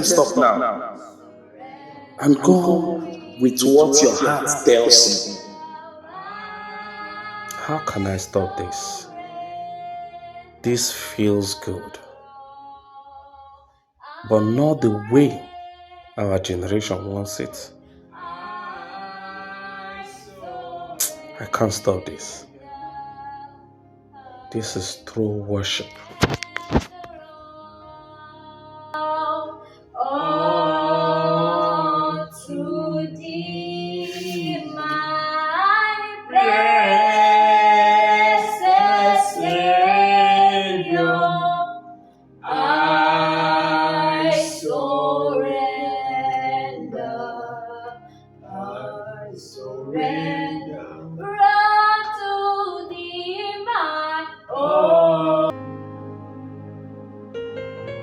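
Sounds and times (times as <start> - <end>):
woman singing worship song: 0.0 - 25.0, 25.7 - 55.6
soft backing music: 0.0 - 58.0.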